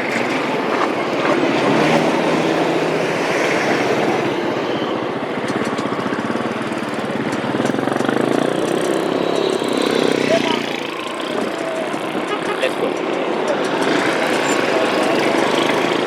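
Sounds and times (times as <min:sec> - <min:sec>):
vehicle engine pulsing drone: 0:00.0 - 0:16.0.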